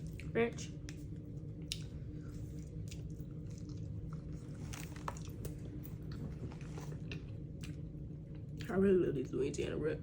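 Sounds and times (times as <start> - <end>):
person chewing food: 0.0 - 8.6
steady low hum: 0.0 - 10.0.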